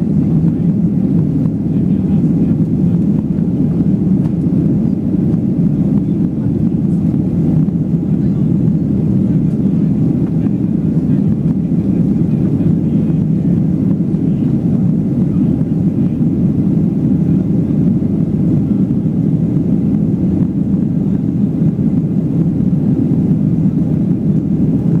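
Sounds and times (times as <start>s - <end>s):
jet engine drone: 0.0s - 25.0s.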